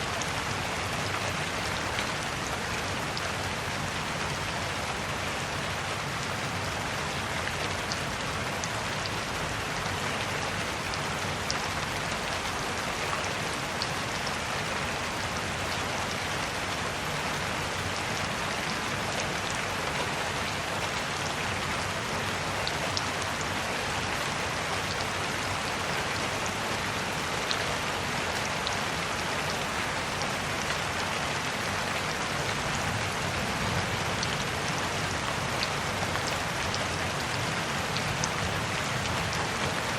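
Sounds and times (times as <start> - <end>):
steady rain hiss: 0.0 - 39.9
raindrops ticking on surface: 0.1 - 39.9.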